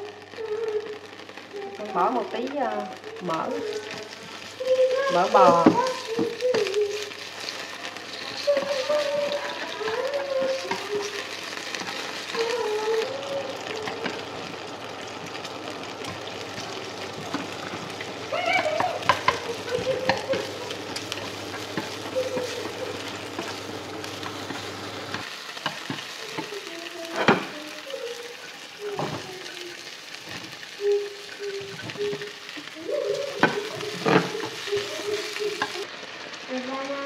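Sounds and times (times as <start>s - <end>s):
fat and onion sizzling in pan: 0.0s - 37.0s
utensils clicking and scraping pan: 2.4s - 35.9s.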